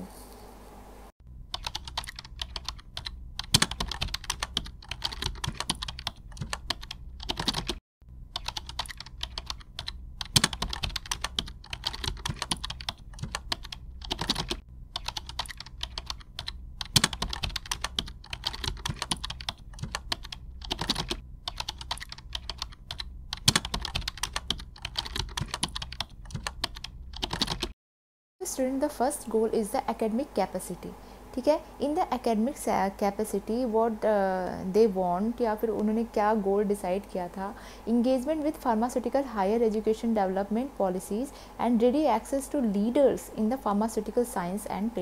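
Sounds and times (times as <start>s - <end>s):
faint steady hum: 0.0s - 27.6s, 28.4s - 45.0s.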